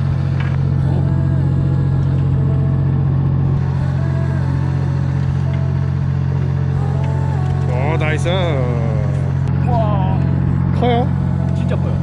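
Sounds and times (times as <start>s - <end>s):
boat machinery droning: 0.0s - 12.0s.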